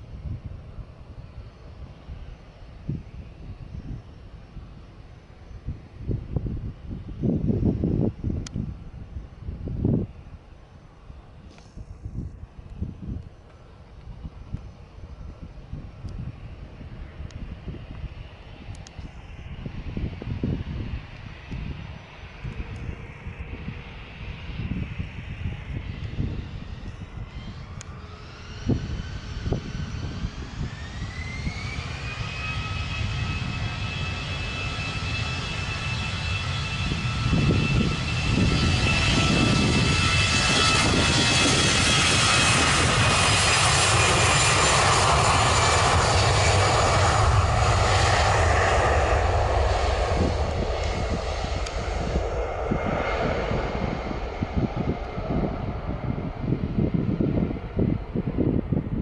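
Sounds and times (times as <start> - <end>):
gusty low rumble: 0.0 - 59.0
jet engines roaring: 0.0 - 59.0.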